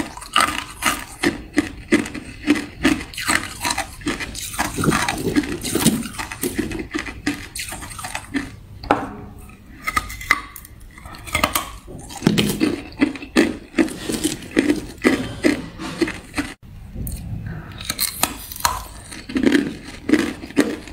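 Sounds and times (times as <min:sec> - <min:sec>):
ice being bitten and crunched: 0:00.0 - 0:08.6, 0:09.8 - 0:16.6, 0:17.8 - 0:20.9.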